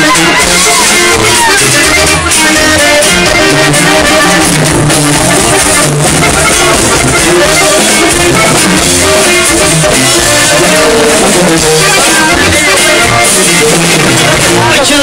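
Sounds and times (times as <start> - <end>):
tuba: 0.0 - 14.8
drums: 0.0 - 15.0
guitar: 0.0 - 15.0.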